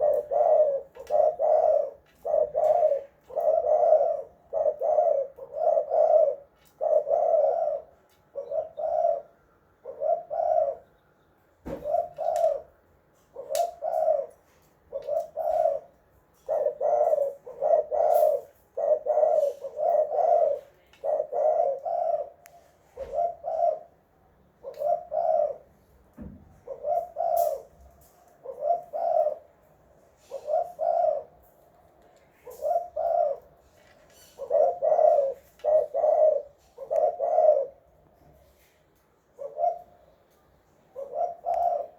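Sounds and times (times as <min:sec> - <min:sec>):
dove cooing: 0:00.0 - 0:10.9, 0:11.7 - 0:25.9, 0:26.5 - 0:31.6, 0:32.2 - 0:41.9.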